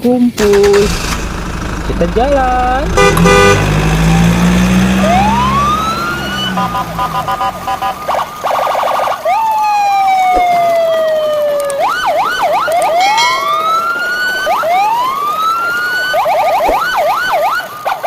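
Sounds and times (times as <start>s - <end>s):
electronic emergency siren: 1.8s - 18.0s.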